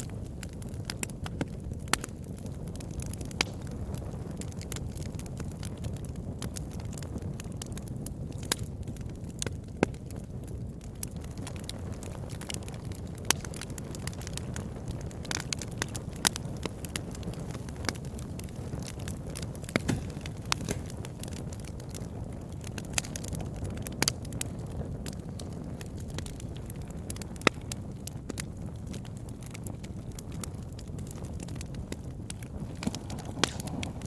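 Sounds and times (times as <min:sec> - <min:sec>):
campfire crackling and popping: 0:00.0 - 0:34.0
low fire rumble: 0:00.0 - 0:34.0.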